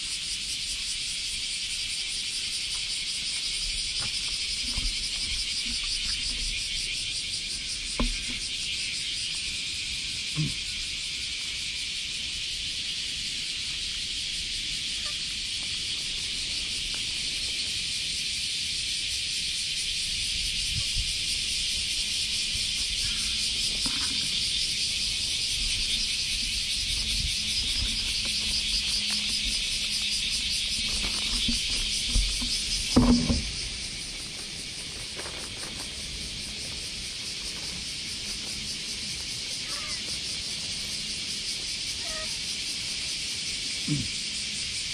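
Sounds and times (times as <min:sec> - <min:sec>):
cicadas buzzing: 0:00.0 - 0:44.9.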